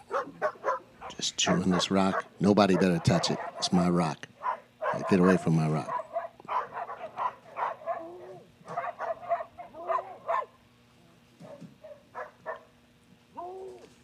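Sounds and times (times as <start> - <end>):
dog barking and whining: 0.0 - 10.6, 11.4 - 14.0.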